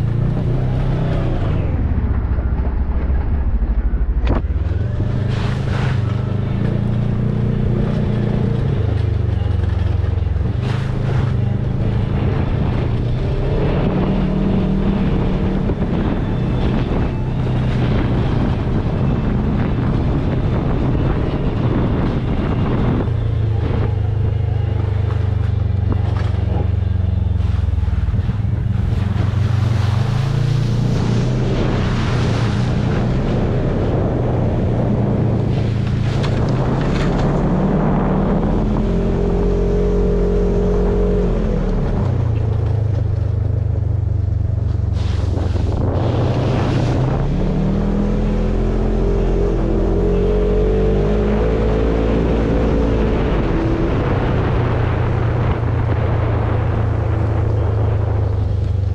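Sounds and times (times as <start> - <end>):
off-road vehicle engine: 0.0 - 58.9.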